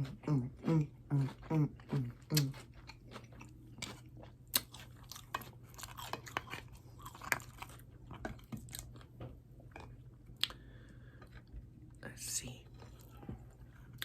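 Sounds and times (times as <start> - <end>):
chewing and crunching food: 0.0 - 14.0
faint low hum: 0.0 - 14.0.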